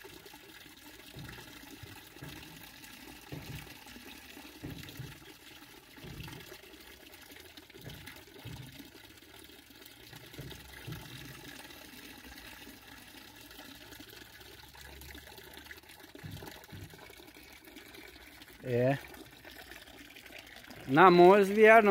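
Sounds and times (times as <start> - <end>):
water trickling in fish tank: 0.0 - 21.9.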